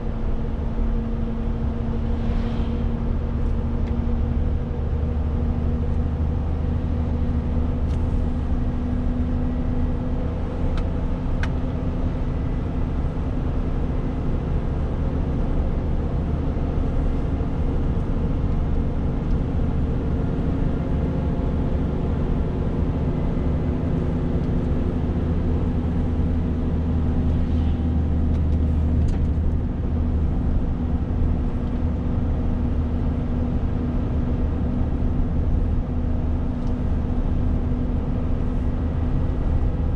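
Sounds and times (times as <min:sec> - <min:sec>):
diesel truck engine drone: 0:00.0 - 0:39.9.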